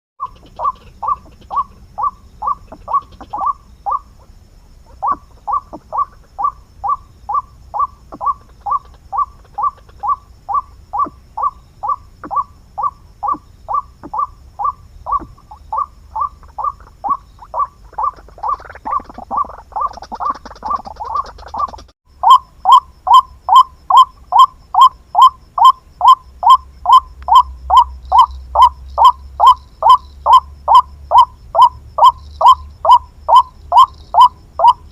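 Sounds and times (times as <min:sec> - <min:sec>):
waterhen calling: 0:00.2 - 0:34.9.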